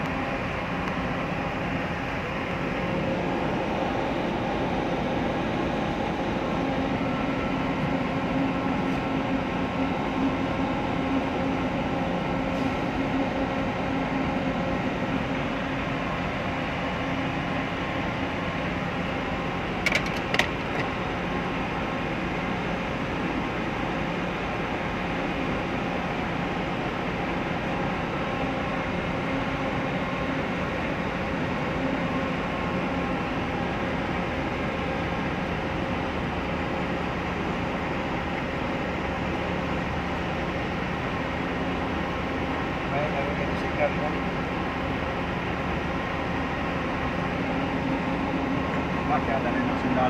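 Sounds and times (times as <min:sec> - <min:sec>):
idling engines and machinery: 0:00.0 - 0:50.0.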